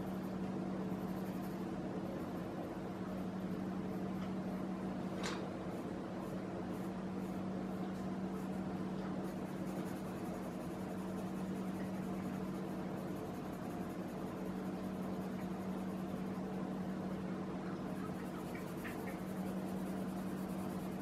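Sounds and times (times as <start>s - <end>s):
pencil scratching on paper: 0.0s - 4.6s, 5.7s - 16.7s, 17.9s - 21.0s
steady low hum: 0.0s - 21.0s.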